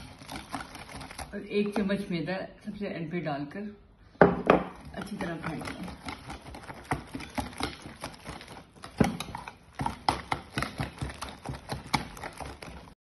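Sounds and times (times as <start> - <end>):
utensil beating batter in plastic bowl: 0.0 - 3.2, 4.2 - 13.0.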